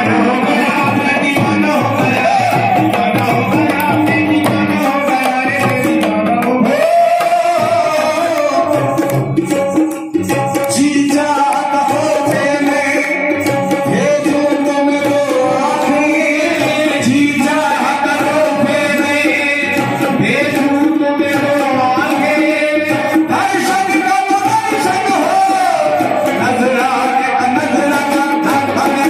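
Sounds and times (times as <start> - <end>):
hand drums: 0.0 - 29.0
man singing: 0.0 - 29.0.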